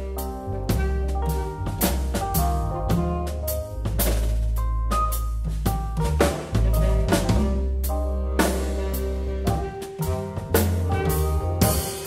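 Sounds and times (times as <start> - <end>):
band playing funky jazz groove: 0.0 - 12.0
drum kit hits: 0.0 - 12.0
steady bass line: 0.0 - 12.0.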